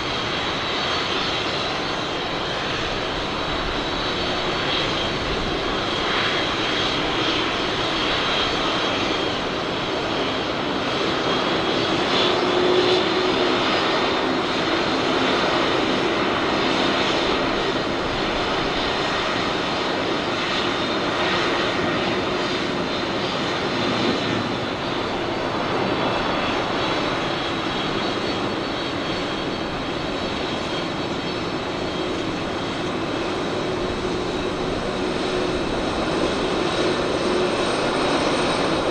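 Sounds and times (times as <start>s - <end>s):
jet engines running with high whine: 0.0s - 38.9s.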